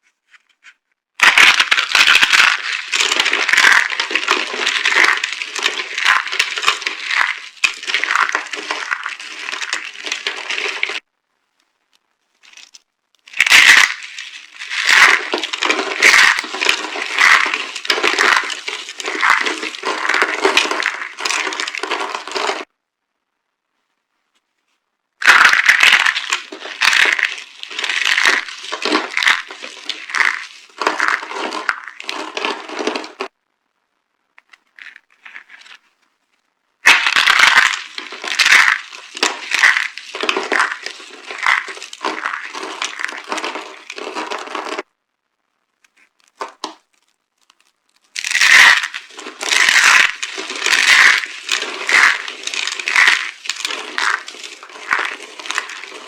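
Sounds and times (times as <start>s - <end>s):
dry soap crunching and crackling: 1.2s - 11.0s, 12.3s - 22.7s, 25.2s - 33.3s, 34.4s - 35.9s, 36.8s - 44.9s, 45.8s - 56.0s.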